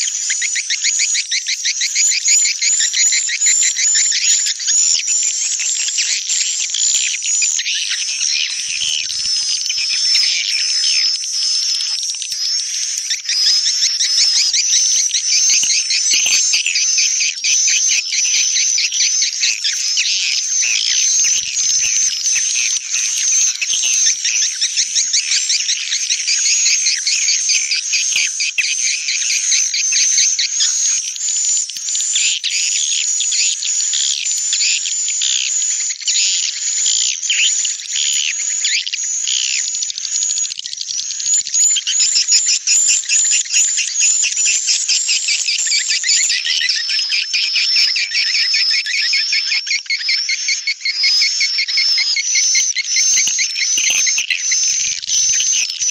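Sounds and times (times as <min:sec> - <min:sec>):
high rapid bird twittering: 0:00.0 - 0:55.9.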